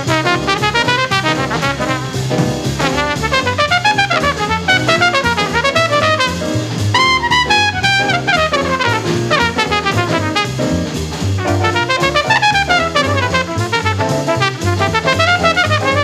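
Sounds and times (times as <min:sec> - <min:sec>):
horn playing fast runs: 0:00.0 - 0:02.2, 0:02.8 - 0:10.8, 0:11.4 - 0:16.0
bebop jazz: 0:00.0 - 0:16.0
walking bass: 0:00.0 - 0:16.0.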